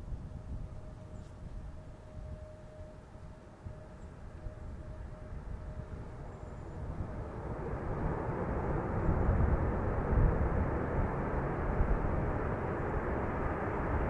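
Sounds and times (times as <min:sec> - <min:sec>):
jet engines at takeoff: 0:00.0 - 0:14.0.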